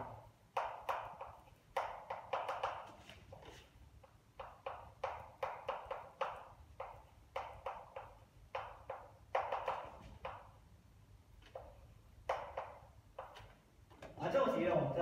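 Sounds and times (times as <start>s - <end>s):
chalk tapping and scratching: 0.5s - 10.6s, 11.4s - 13.6s.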